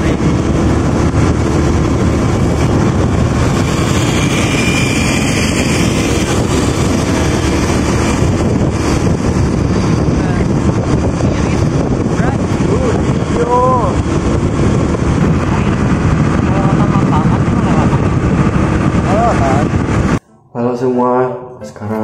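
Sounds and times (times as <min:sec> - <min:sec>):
motorcycle engine: 0:00.0 - 0:20.2
wind rushing across microphone: 0:00.0 - 0:20.2
road noise: 0:00.0 - 0:20.8.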